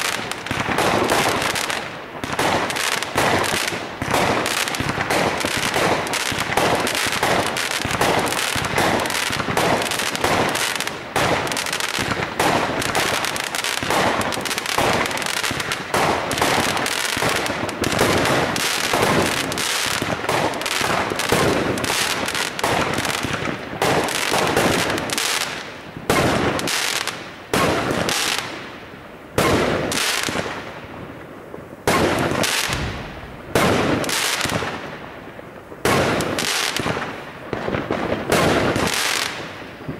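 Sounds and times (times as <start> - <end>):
fireworks bursting: 0.0 - 39.9
fireworks crackling: 0.0 - 39.9.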